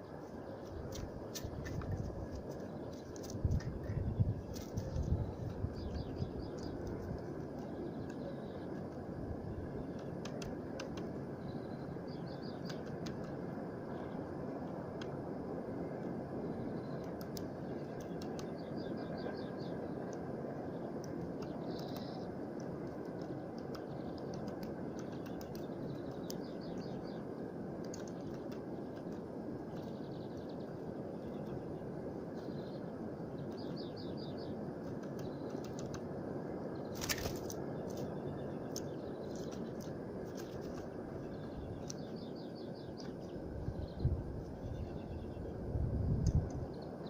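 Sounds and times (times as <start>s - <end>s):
small birds chirping: 0.0s - 15.2s, 15.8s - 47.0s
low background noise: 0.0s - 47.0s.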